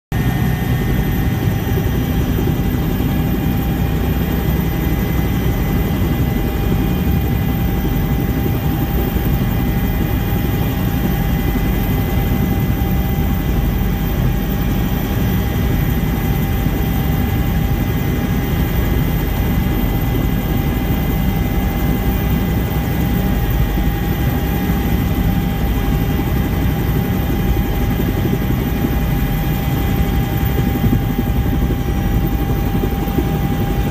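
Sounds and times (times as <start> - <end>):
helicopter rotor noise: 0.1 - 33.9
turbine whine: 0.1 - 33.9.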